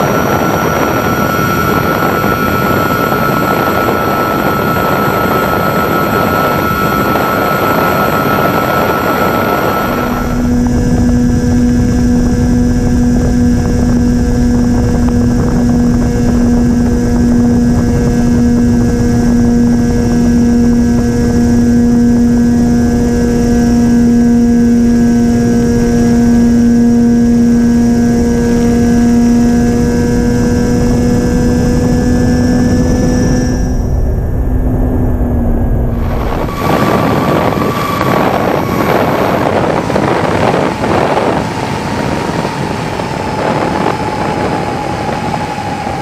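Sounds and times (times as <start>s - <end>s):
electric motors droning: 0.0s - 46.0s
wind rushing on microphone: 0.0s - 46.0s.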